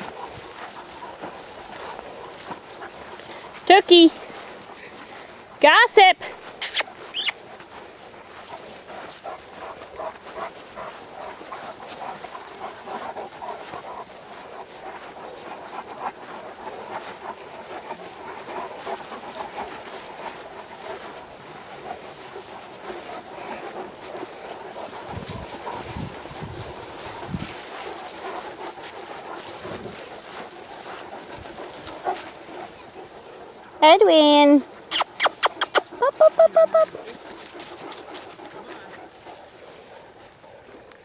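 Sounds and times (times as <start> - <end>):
dogs panting: 0.0 - 41.0
rustling on grass: 0.0 - 41.0.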